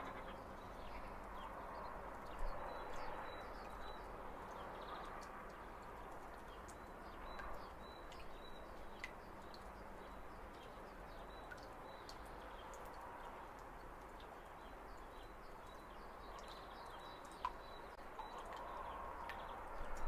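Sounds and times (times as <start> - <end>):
background noise: 0.0 - 20.0
small birds chirping: 0.0 - 20.0.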